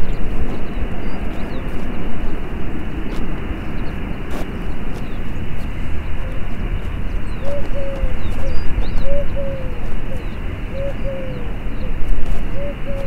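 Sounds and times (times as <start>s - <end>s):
dove cooing: 0.0s - 13.0s
low outdoor rumble: 0.0s - 13.0s
small birds chirping: 0.0s - 13.0s.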